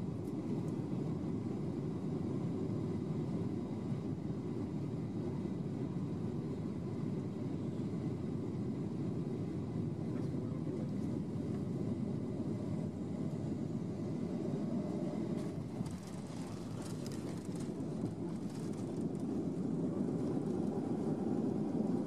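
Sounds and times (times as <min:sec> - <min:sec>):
airplane engines and airflow rush: 0:00.0 - 0:22.0.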